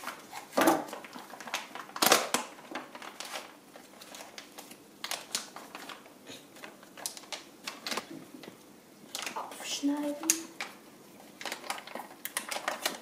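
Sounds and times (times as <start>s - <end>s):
plastic packaging crinkling: 0.0s - 9.6s, 10.2s - 13.0s.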